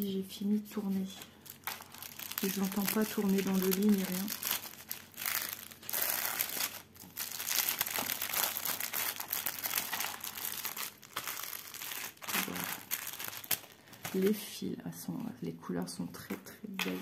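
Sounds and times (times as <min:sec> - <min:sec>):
plastic packaging crinkling: 0:00.7 - 0:14.5.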